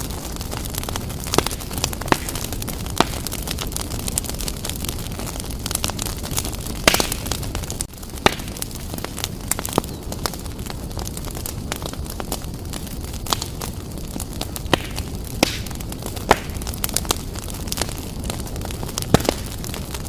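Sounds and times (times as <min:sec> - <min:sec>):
fire crackling and popping: 0:00.0 - 0:20.0
fire flames rushing: 0:00.0 - 0:20.0.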